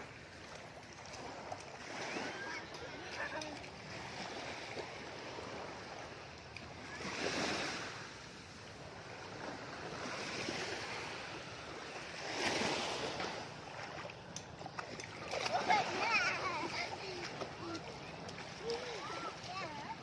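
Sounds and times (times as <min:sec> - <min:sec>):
small waves breaking on shore: 0:00.0 - 0:20.0.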